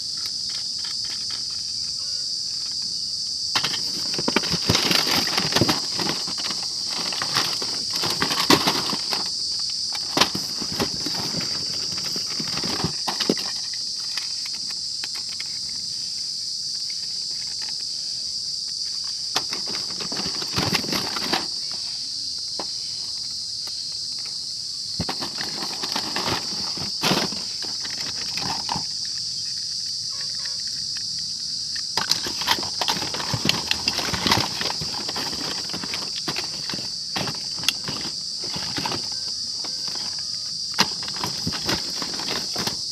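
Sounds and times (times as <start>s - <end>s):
plastic toys clicking and knocking: 0.0s - 2.9s, 3.5s - 16.0s, 16.7s - 42.9s.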